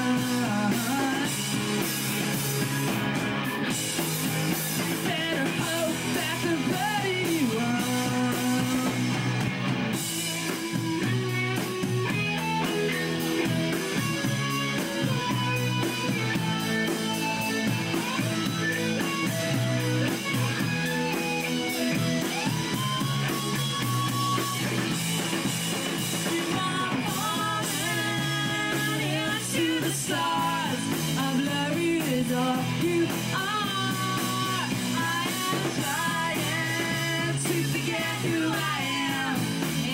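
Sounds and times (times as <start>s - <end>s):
bass: 0.0s - 39.9s
distorted electric guitars: 0.0s - 39.9s
drum kit: 0.0s - 39.9s.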